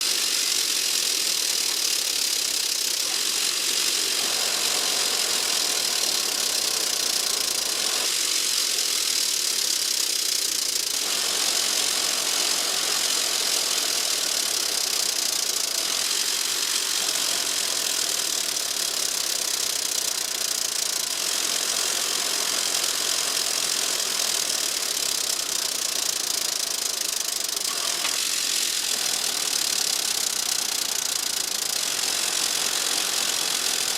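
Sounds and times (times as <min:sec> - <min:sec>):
rapid hammer strikes on metal: 0:00.0 - 0:33.9.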